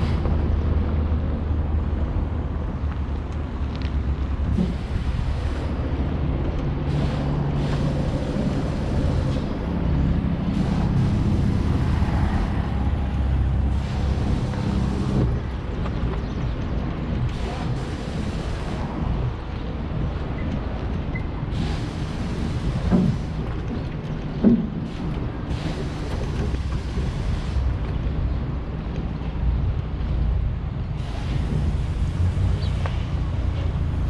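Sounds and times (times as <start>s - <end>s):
car and trailer rumbling: 0.0s - 34.0s
wind buffeting microphone: 0.0s - 34.0s.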